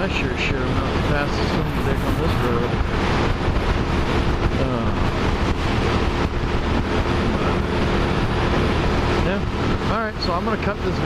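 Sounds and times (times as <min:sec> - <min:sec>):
motorcycle engine: 0:00.0 - 0:11.0
wind rushing over microphone: 0:00.0 - 0:11.0.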